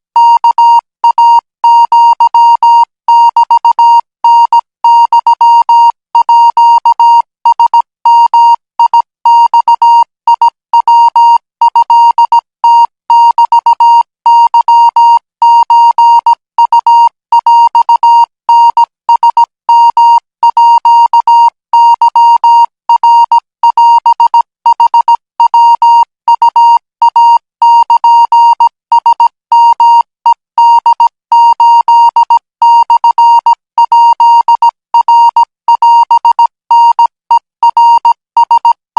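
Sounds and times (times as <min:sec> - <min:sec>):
morse code beeps: 0:00.2 - 0:38.8.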